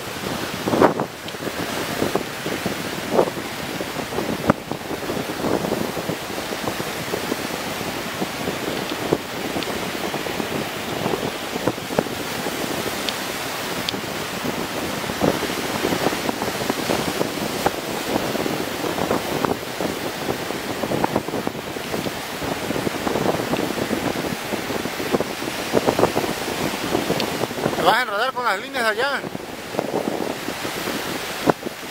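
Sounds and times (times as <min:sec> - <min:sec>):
surf breaking on beach: 0:00.0 - 0:31.9
wind buffeting microphone: 0:00.0 - 0:31.9.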